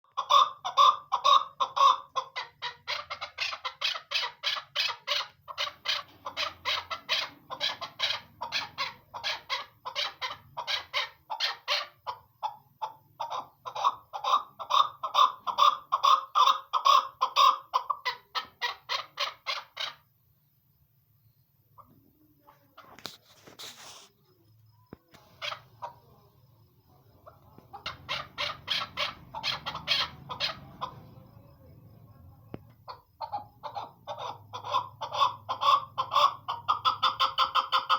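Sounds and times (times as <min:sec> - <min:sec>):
partridge clucking calls: 0:00.0 - 0:20.1, 0:24.9 - 0:31.6, 0:32.5 - 0:37.9.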